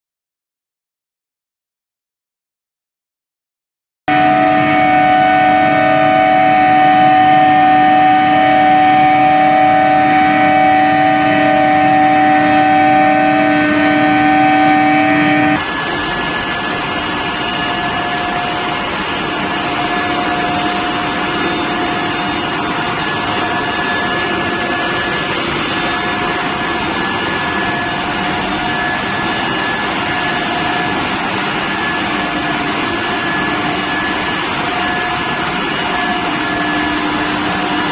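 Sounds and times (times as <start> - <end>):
machine hum with held tones: 4.1 - 37.9
thin high machine whine: 4.1 - 37.9.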